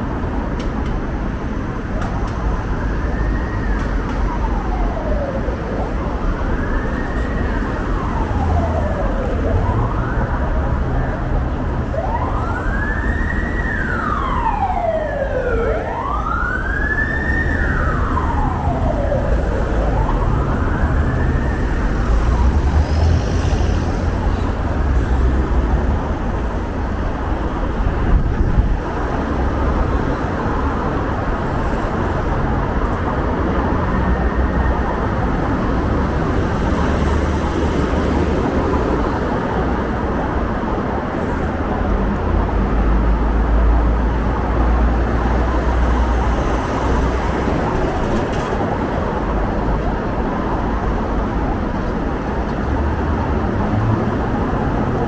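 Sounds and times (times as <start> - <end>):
city traffic rumble: 0.0 - 55.0
emergency vehicle siren wailing: 1.9 - 55.0.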